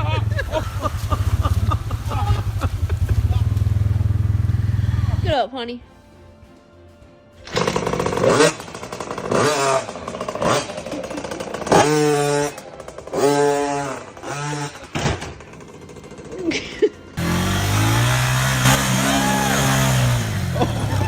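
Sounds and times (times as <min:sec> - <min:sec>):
motorcycle engine revving: 0:00.0 - 0:05.4, 0:07.4 - 0:21.0
steady engine sound: 0:00.0 - 0:05.4, 0:07.4 - 0:21.0.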